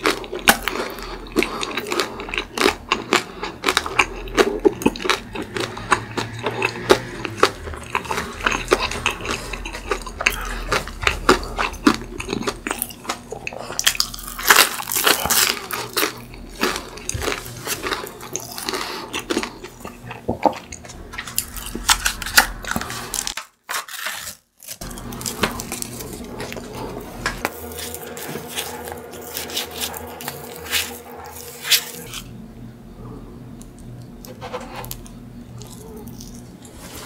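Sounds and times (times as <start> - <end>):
crunchy chewing: 0.0 - 32.4, 33.6 - 37.0.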